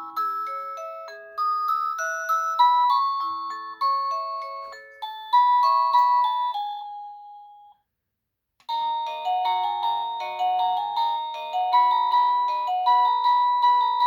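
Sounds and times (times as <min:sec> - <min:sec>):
electronic doorbell chime melody: 0:00.0 - 0:07.8, 0:08.7 - 0:14.0.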